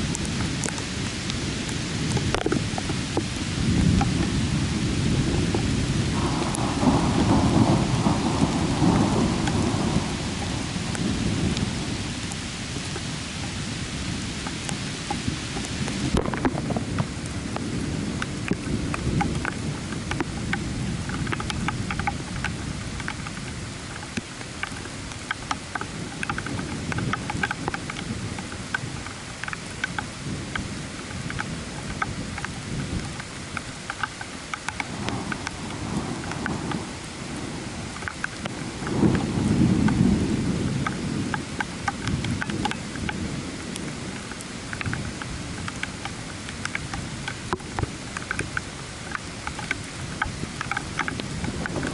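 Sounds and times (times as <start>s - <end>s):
low rumble of thunder: 0.0s - 24.9s, 25.5s - 33.2s, 34.7s - 51.9s
rain falling steadily: 0.0s - 51.9s
water drips and splashes: 0.0s - 51.9s.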